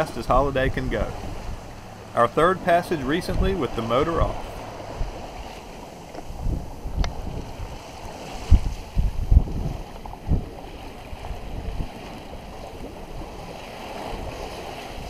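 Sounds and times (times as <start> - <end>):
water rushing along a hull: 0.0 - 15.0
wind buffeting the microphone: 0.0 - 15.0.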